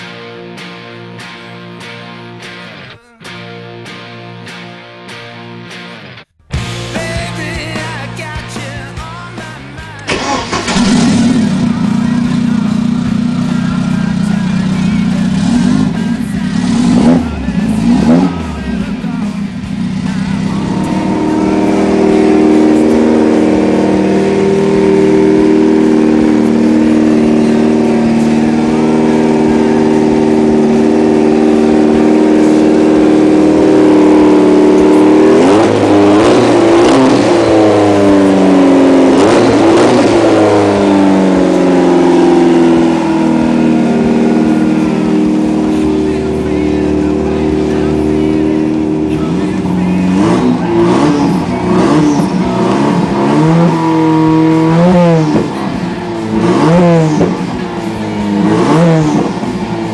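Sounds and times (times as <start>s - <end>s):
car engine idling and revving: 6.6s - 59.9s.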